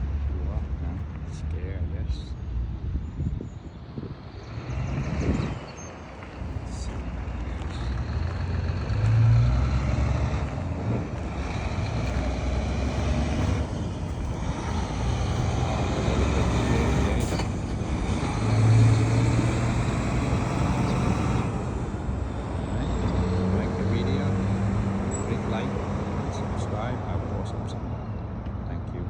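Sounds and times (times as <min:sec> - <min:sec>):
road traffic rumble: 0:00.0 - 0:29.0
vehicles passing close: 0:00.0 - 0:29.0.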